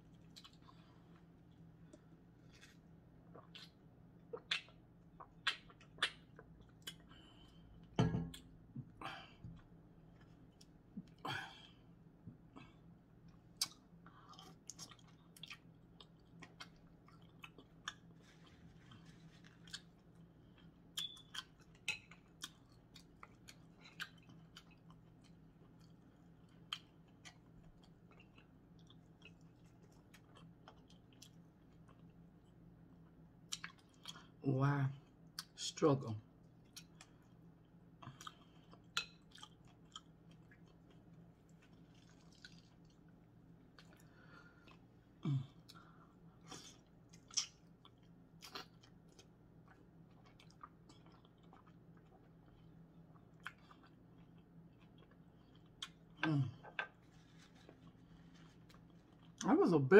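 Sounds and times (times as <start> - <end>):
person chewing: 0.0 - 8.5, 12.5 - 32.6, 33.5 - 34.4, 36.5 - 59.5.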